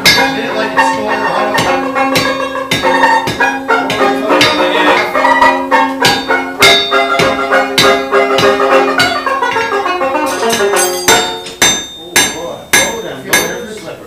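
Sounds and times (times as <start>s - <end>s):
held low note: 0.0s - 13.6s
struck ringing pitched notes: 0.0s - 14.0s.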